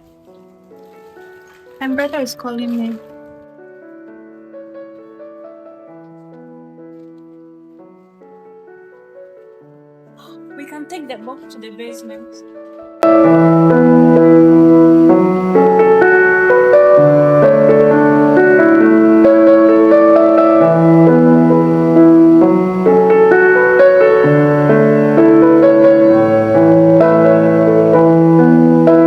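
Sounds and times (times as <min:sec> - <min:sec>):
gentle piano chords: 0:00.0 - 0:29.0.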